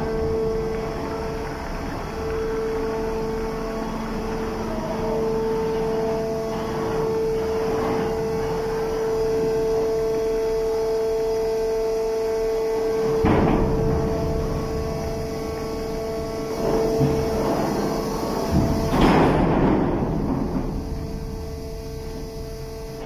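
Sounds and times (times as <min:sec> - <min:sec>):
machinery low rumble: 0:00.0 - 0:23.0
mid-pitched machinery whine: 0:00.0 - 0:23.0.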